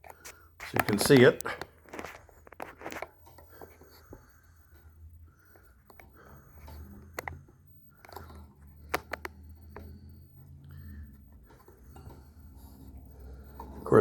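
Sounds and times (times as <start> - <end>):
faint low hum: 0.1 - 14.0.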